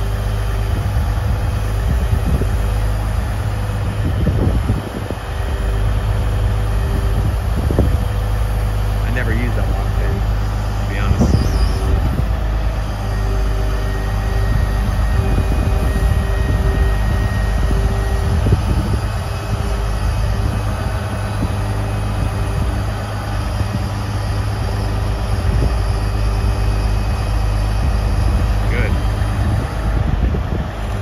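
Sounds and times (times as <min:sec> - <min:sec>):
diesel engine idling: 0:00.0 - 0:31.0
hydraulic pump hum: 0:00.0 - 0:31.0.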